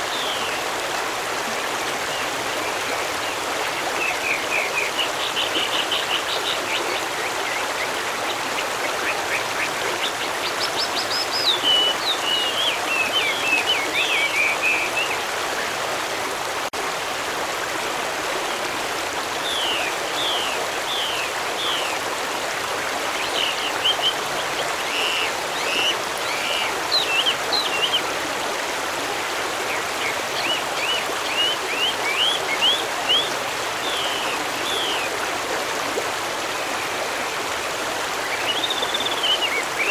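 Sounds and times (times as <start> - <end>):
rushing stream: 0.0 - 39.9.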